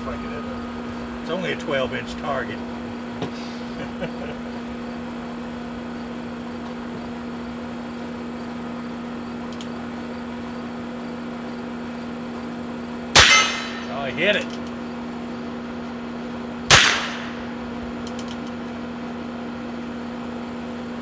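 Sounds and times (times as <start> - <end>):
air conditioner hum: 0.0 - 21.0.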